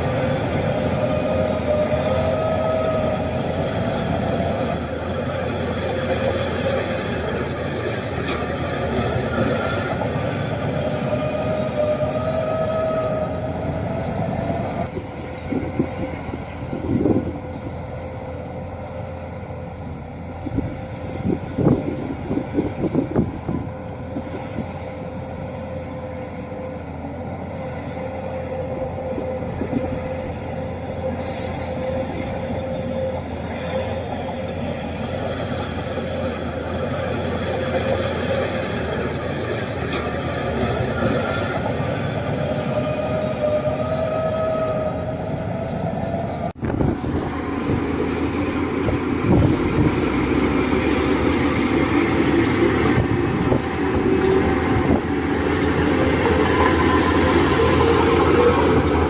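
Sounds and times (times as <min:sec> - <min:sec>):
bulldozer engine whining: 0:00.0 - 0:59.0
steel tracks clanking and squealing: 0:00.0 - 0:59.0.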